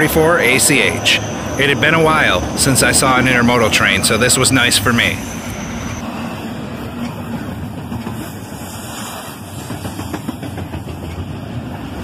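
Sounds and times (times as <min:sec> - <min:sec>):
steel train wheels rumbling on rails: 0:00.0 - 0:12.0.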